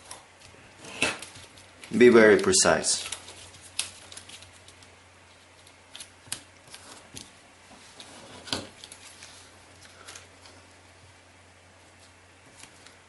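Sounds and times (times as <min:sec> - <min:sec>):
paper being folded and creased: 0:00.0 - 0:10.6.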